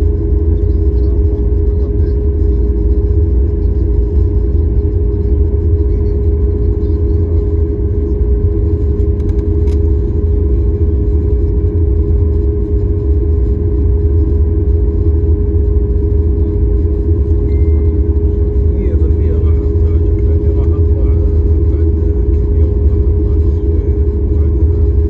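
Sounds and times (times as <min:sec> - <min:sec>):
constant mid-pitched hum: 0:00.0 - 0:25.0
jet engines low rumble: 0:00.0 - 0:25.0.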